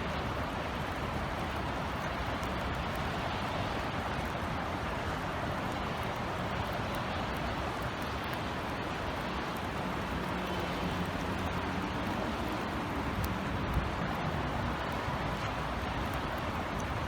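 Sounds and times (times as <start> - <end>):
distant city traffic hum: 0.0 - 17.0
raindrops ticking close by: 0.0 - 17.0
steady rain falling: 0.0 - 17.0.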